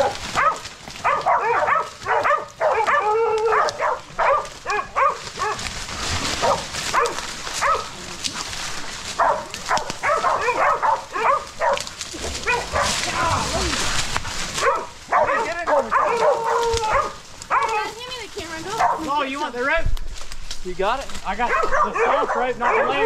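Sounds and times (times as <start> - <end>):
dogs barking and yelping: 0.0 - 19.3, 21.3 - 23.0.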